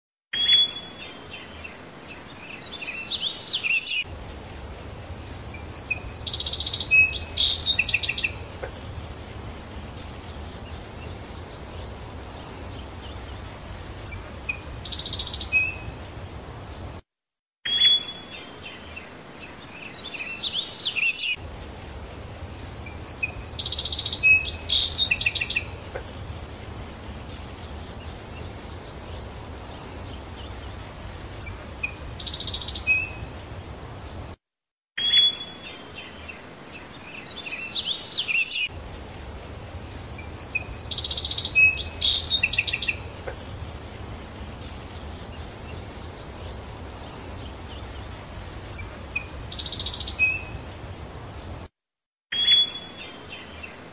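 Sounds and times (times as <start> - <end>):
birds chirping: 0.3 - 16.8, 17.7 - 34.2, 35.0 - 51.4
outdoor background hiss: 0.4 - 17.1, 17.7 - 53.9.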